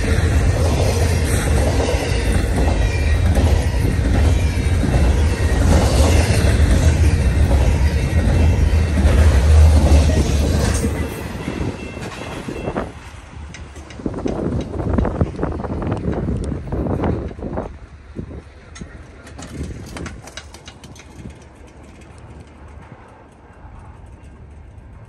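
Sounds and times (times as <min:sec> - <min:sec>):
steel wheels rumbling on rails: 0:00.0 - 0:25.0.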